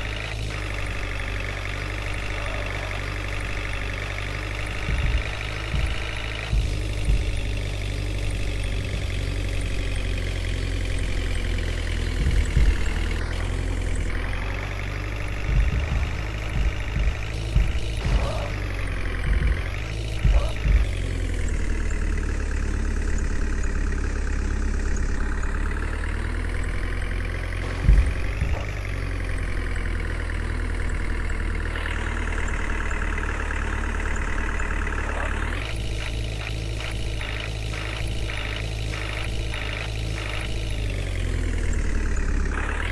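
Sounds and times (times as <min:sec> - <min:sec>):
fast regular pulsing: 0:00.0 - 0:42.9
heavy vehicle engine revving: 0:00.0 - 0:42.9.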